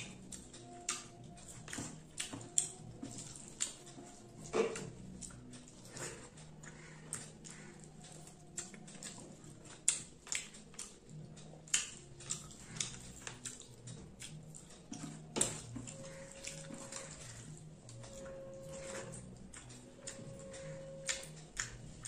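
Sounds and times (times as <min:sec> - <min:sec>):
chewing smacks: 0:00.0 - 0:22.0
fingers squishing food: 0:00.0 - 0:22.0
low steady hum: 0:00.0 - 0:22.0.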